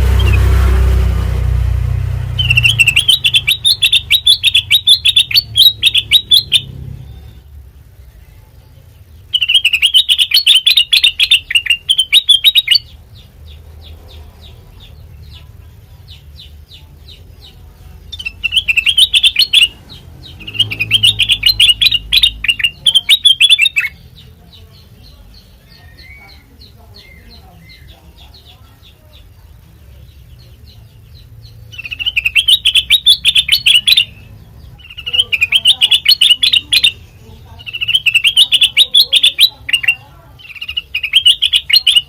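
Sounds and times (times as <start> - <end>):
bulbul chattering song: 0.0 - 42.0.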